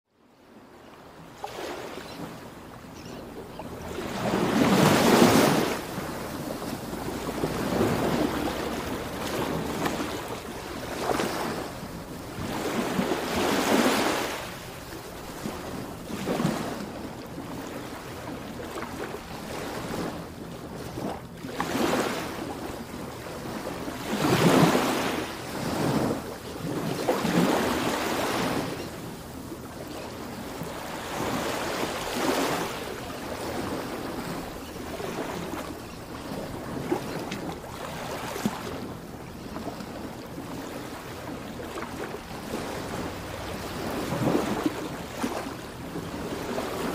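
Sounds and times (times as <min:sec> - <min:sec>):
ocean waves breaking: 0:00.6 - 0:46.9.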